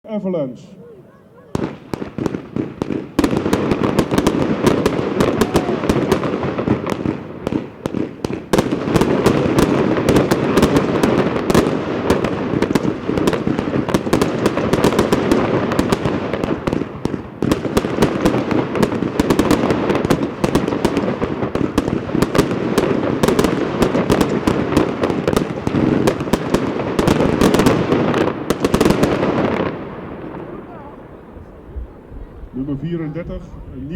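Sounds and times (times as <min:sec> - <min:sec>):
firework bangs and crackles: 0:01.5 - 0:33.9.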